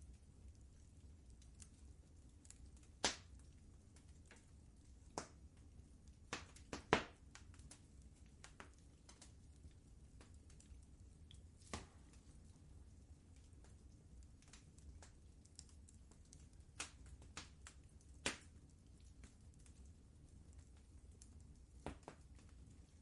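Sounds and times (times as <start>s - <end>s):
low steady rumble: 0.0s - 23.0s
wood fire crackling: 0.0s - 23.0s.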